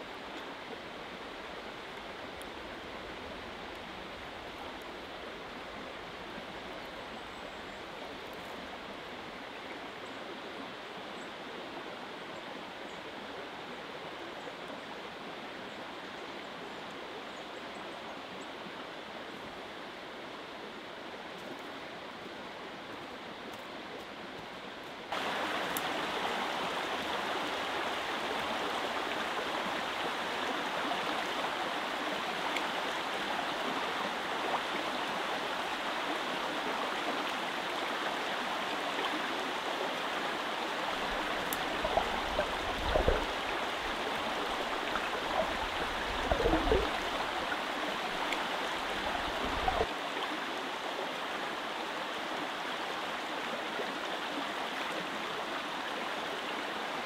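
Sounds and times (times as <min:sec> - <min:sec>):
river flowing over stones: 0:00.0 - 0:57.0.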